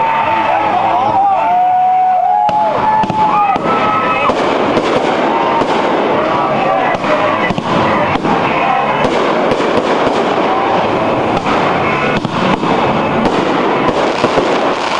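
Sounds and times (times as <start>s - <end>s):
fireworks bursts and crackling: 0.0s - 14.9s.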